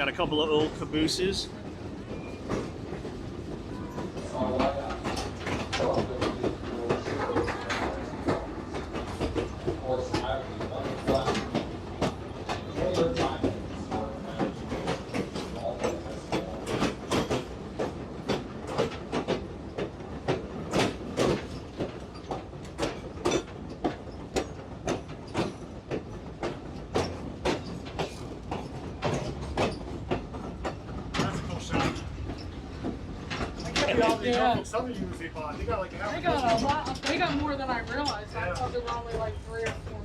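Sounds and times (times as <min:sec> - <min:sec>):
low rumble of train: 0:00.0 - 0:40.0
train wheels clicking over rail joints: 0:00.0 - 0:40.0.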